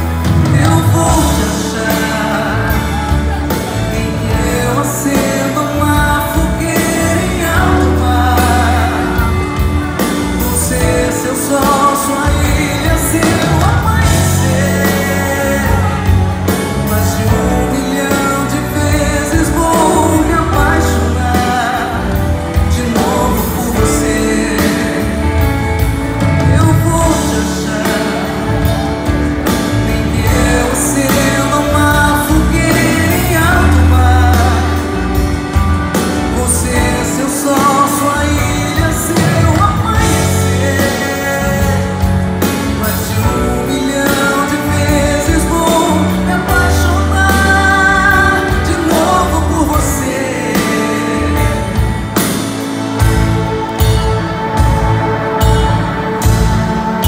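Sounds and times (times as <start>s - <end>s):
live pop band playing: 0.0s - 57.0s
person singing: 0.0s - 57.0s.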